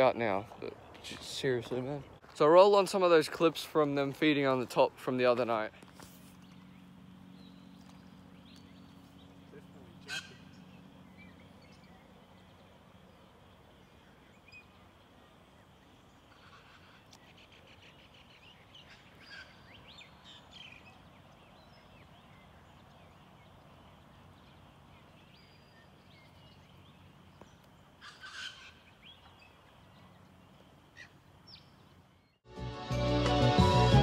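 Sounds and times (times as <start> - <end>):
birds chirping and calling: 0.0 - 4.9, 5.5 - 32.4.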